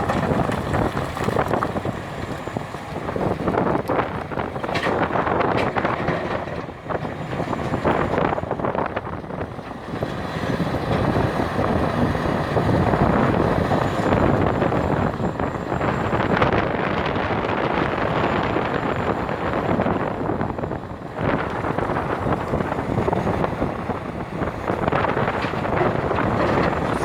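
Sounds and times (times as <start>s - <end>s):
excavator diesel engine: 0.0s - 27.0s
wind buffeting microphone: 0.0s - 27.0s.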